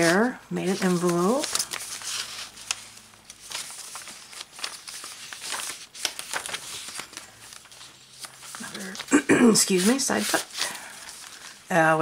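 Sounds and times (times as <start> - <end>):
paper rustling and crinkling: 0.0 - 11.8.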